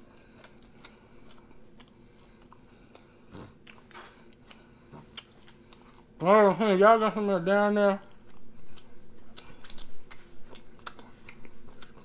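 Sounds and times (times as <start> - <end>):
man chewing food: 0.0 - 6.5, 8.0 - 12.0.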